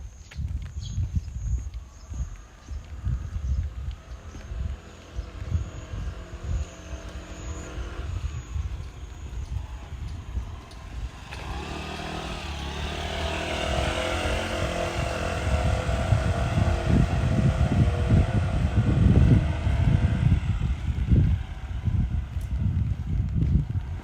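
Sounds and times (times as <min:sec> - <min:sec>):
low rumble of passing vehicle: 0:00.6 - 0:24.0
vehicle engine passing: 0:02.9 - 0:24.0.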